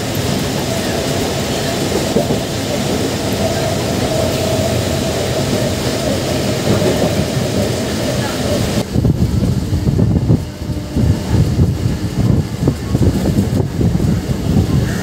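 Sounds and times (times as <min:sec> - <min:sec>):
train wheel and rail noise: 0:00.0 - 0:15.0
wind buffeting microphone: 0:00.0 - 0:15.0.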